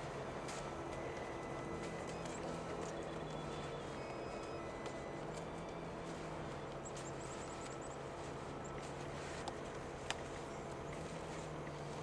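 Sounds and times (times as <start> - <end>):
snow crunching and scraping: 0.0 - 12.0.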